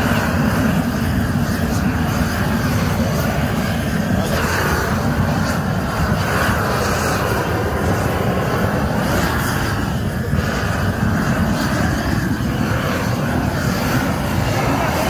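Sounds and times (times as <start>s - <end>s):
gas burner flame roaring: 0.0s - 15.0s.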